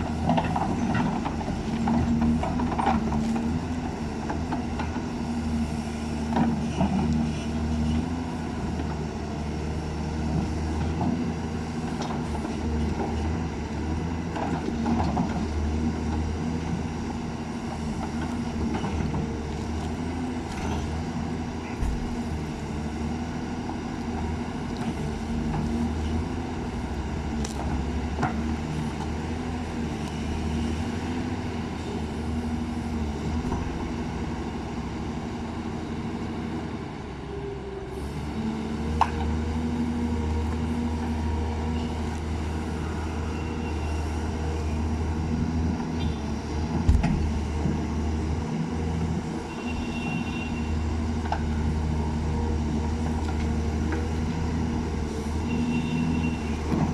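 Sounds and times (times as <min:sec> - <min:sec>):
backhoe diesel engine running: 0:00.0 - 0:56.9.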